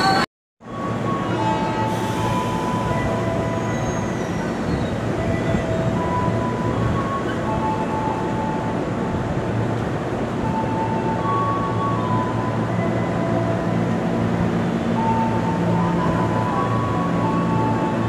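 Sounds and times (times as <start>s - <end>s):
electric train rumble and hum: 0.0s - 18.0s.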